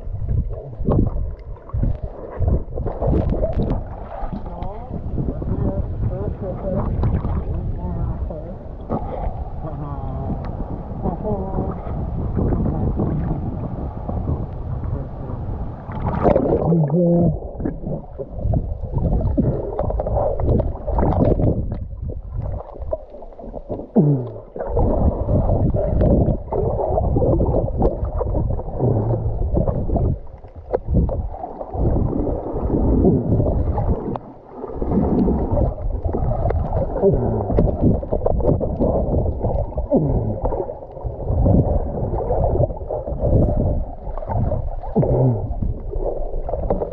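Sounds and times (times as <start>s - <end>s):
gurgle sliding in pitch: 0.0s - 46.9s
muffled underwater water churning: 0.0s - 46.9s.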